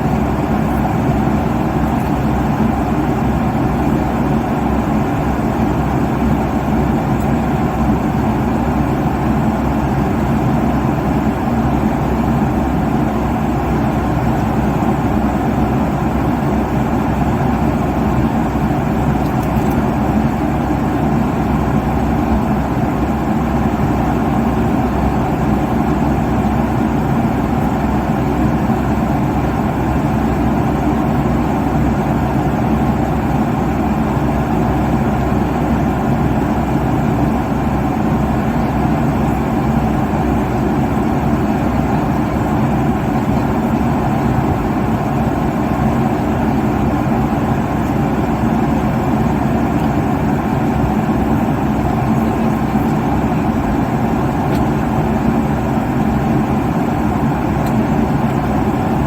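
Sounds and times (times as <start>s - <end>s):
airliner cabin engine drone: 0.0s - 59.0s
faint hum: 0.0s - 59.0s.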